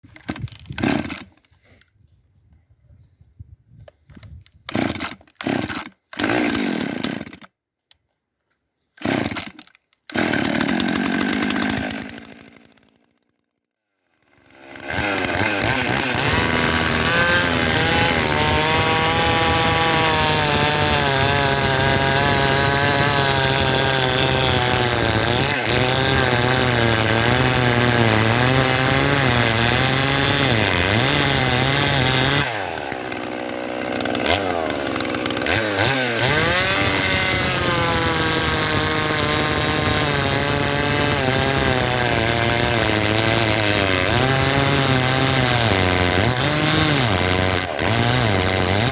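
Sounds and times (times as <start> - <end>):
chainsaw cutting wood: 0.0 - 1.5, 4.6 - 7.5, 9.0 - 13.4, 14.2 - 48.9.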